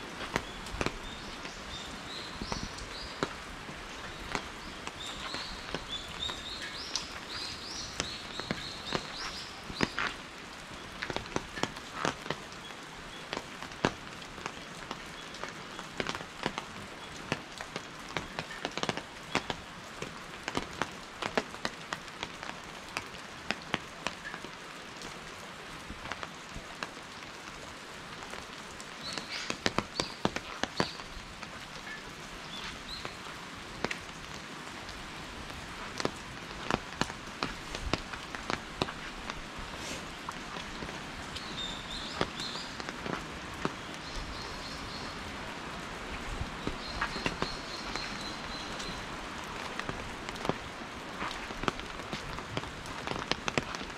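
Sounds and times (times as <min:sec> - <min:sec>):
raindrops tapping close by: 0:00.0 - 0:53.9
steady rain falling: 0:00.0 - 0:53.9.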